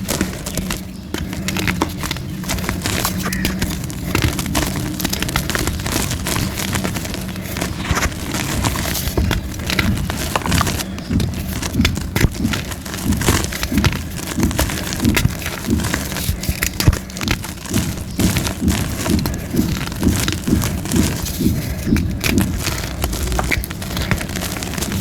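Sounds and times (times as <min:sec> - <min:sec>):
chalk being crushed: 0:00.0 - 0:25.0.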